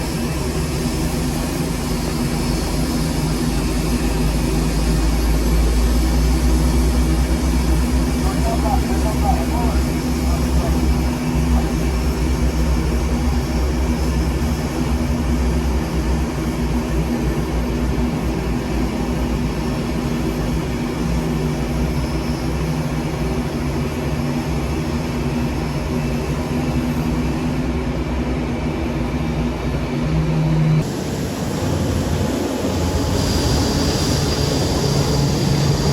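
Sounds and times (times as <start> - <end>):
jet engines running: 0.0 - 35.9.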